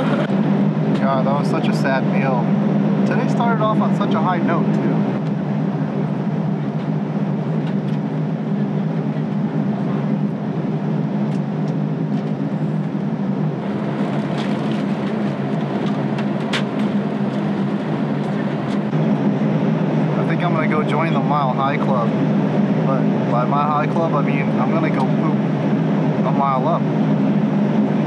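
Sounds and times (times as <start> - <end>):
jet cabin drone: 0.0 - 28.0.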